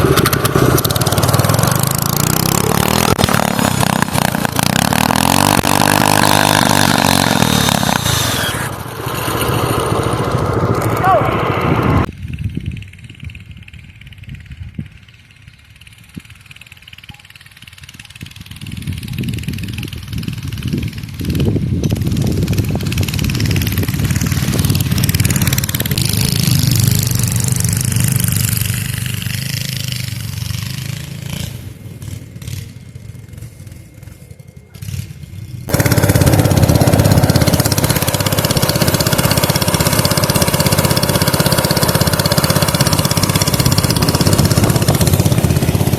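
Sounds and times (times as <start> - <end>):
small vehicle engine revving: 0.0 - 12.1, 17.5 - 45.9.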